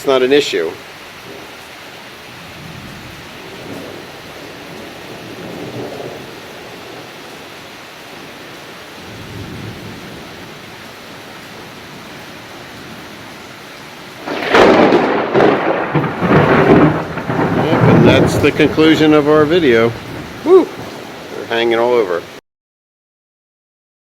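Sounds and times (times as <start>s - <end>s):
heavy rain falling: 0.0s - 22.4s
thunder clap and rumble: 2.3s - 22.3s.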